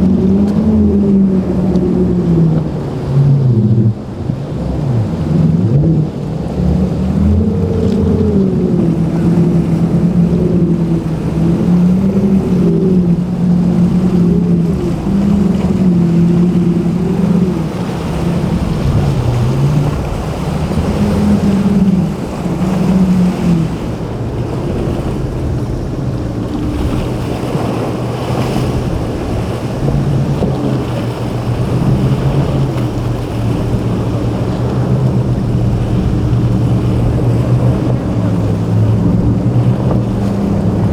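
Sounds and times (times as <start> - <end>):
boat engines running: 0.0 - 40.9
waves washing: 0.0 - 40.9
wind on microphone: 0.0 - 40.9.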